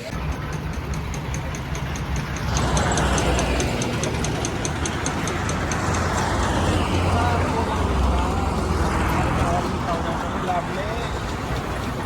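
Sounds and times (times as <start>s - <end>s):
rapid high ticking: 0.0s - 12.0s
road or wind noise: 0.0s - 12.0s
vehicle engine humming: 0.0s - 12.0s.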